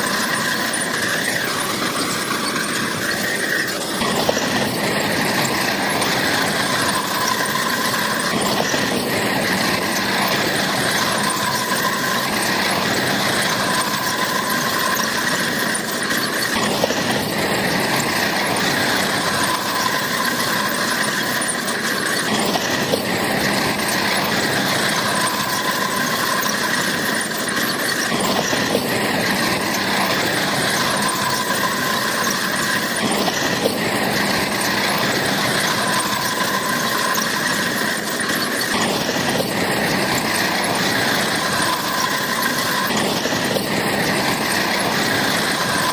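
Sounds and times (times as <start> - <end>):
bulldozer engine running: 0.0 - 45.9
crawler tracks squealing: 0.0 - 45.9.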